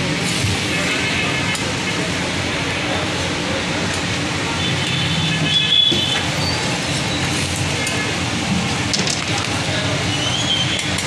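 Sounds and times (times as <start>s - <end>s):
low din of food stall: 0.0s - 11.0s.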